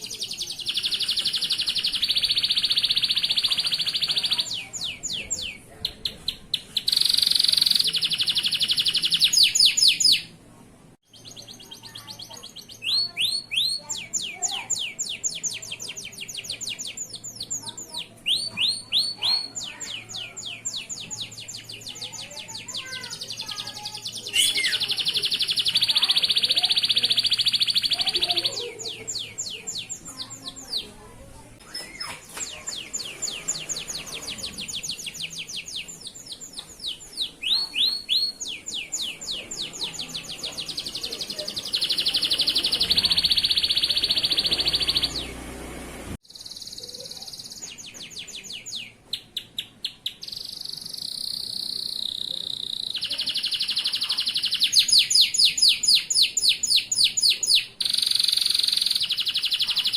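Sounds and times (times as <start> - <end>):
canary singing trills: 0.0 - 10.4, 11.1 - 59.9.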